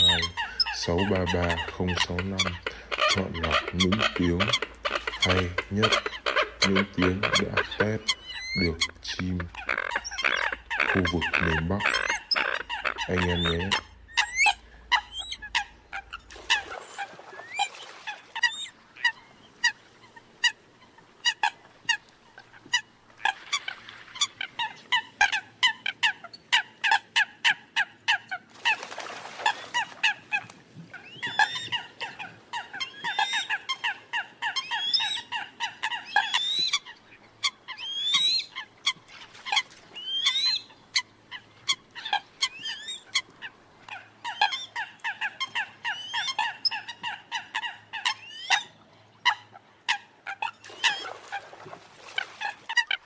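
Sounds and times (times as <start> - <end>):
coots calling: 0.0 - 53.0.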